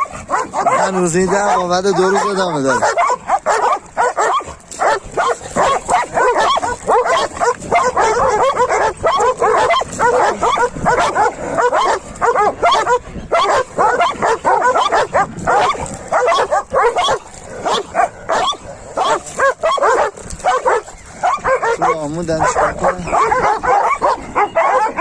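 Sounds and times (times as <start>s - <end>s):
dogs fighting and barking: 0.0s - 25.0s.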